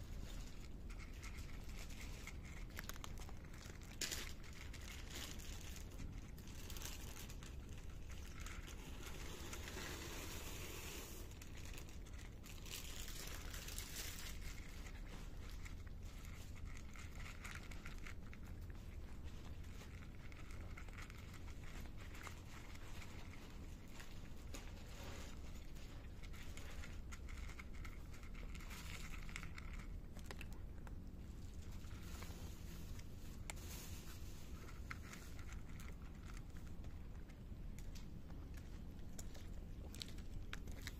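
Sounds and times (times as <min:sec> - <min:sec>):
cats crunching dry kibble: 0:00.0 - 0:40.9.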